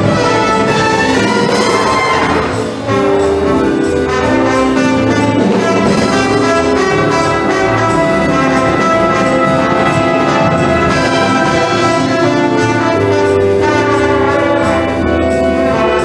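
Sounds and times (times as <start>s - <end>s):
wind band playing swing music: 0.0s - 16.0s.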